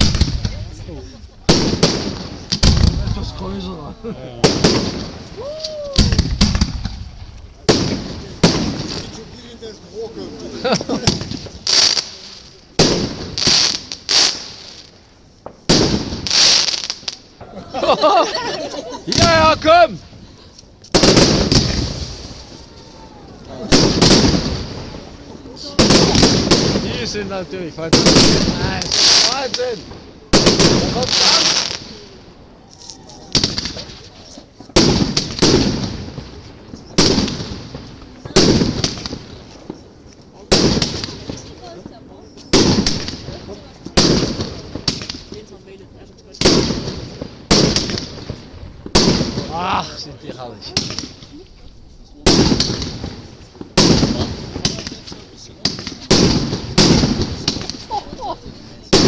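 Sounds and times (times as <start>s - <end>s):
fireworks banging: 0.0s - 59.0s
hissing crackle of fireworks: 0.0s - 59.0s.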